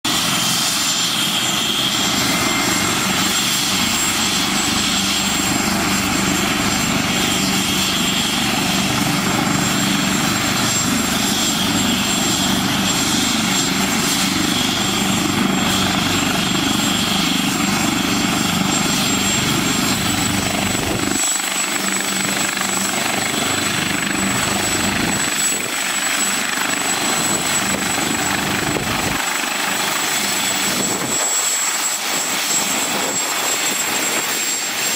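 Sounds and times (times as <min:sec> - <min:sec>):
helicopter rotor and engine noise: 0:00.0 - 0:34.9
helicopter turbine whine: 0:00.1 - 0:34.9.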